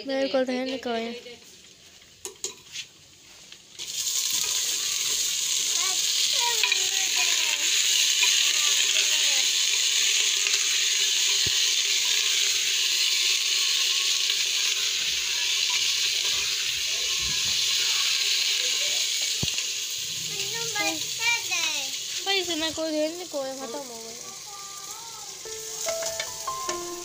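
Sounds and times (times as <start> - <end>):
meat sizzling in hot fat: 0.8 - 27.0.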